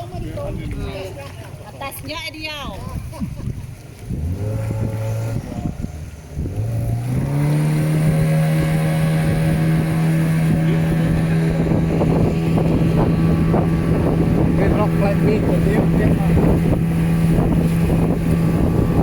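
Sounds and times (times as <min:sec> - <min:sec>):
motorboat engine revving up: 0:02.8 - 0:19.0.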